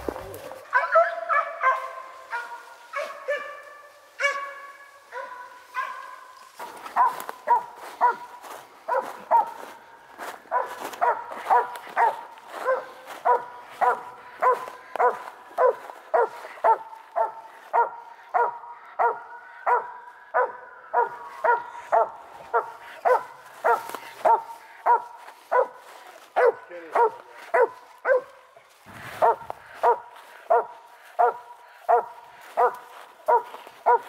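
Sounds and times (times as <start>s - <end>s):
dog barking: 0.2s - 34.0s.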